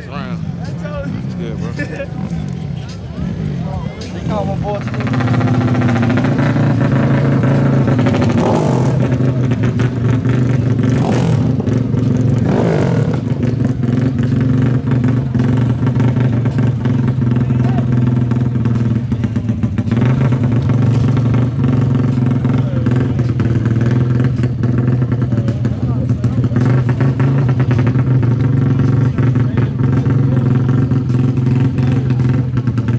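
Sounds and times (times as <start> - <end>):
atv engine running: 0.0 - 32.9.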